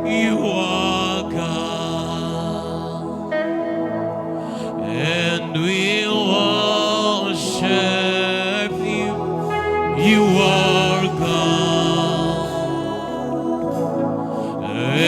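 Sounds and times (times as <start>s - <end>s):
person singing: 0.0s - 15.0s
sustained keyboard chords: 0.0s - 15.0s.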